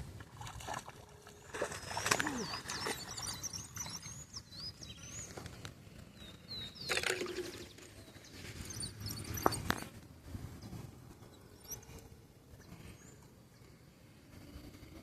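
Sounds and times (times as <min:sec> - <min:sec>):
small birds chirping: 0:01.5 - 0:13.8.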